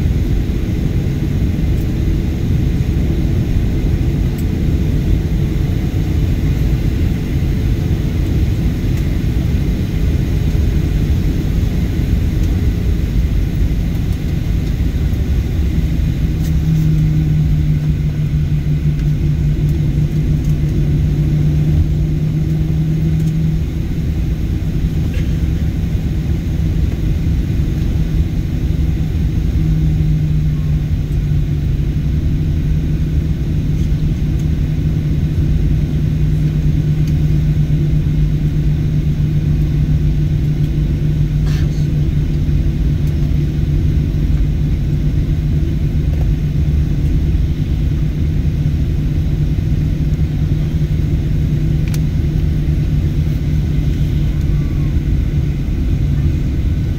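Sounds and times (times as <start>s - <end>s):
low cabin rumble: 0.0s - 56.9s
low hum: 0.0s - 56.9s.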